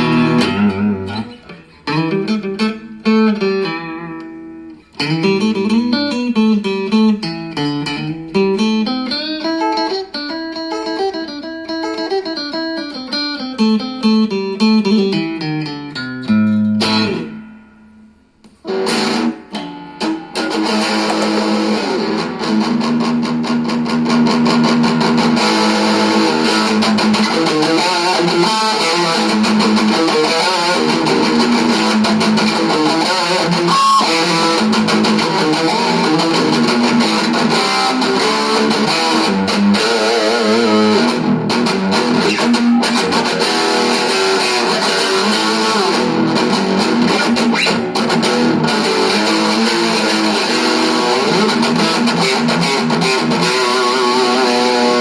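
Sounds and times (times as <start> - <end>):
electric guitar playing: 0.0 - 55.0.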